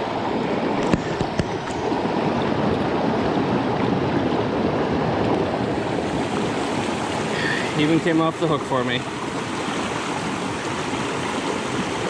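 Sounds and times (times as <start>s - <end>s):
brook running over rocks: 0.6s - 3.9s, 5.2s - 12.0s.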